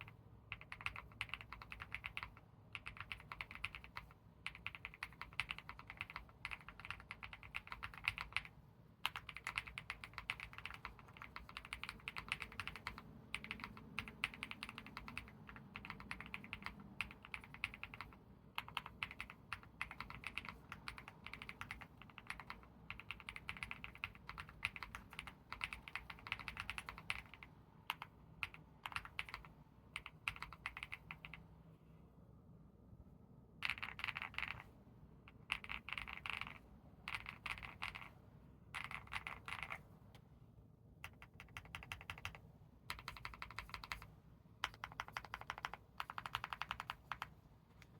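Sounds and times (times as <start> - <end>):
mechanical keyboard typing: 0.0 - 31.4, 33.6 - 34.7, 35.3 - 39.9, 41.0 - 47.9.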